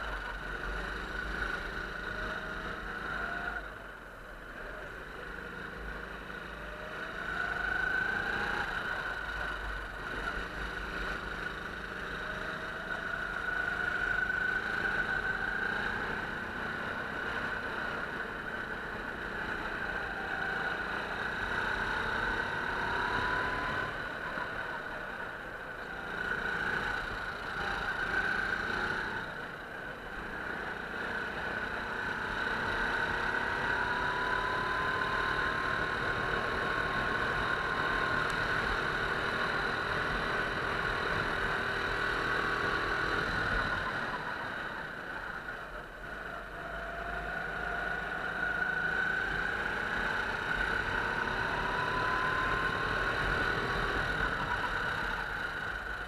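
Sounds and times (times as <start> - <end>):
go-kart engine revving: 4.6 - 56.0.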